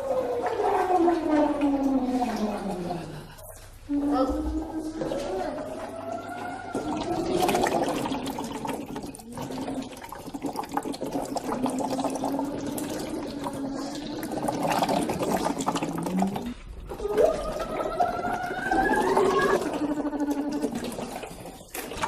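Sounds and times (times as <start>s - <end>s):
bubbling through a tube into water: 0.0s - 22.0s.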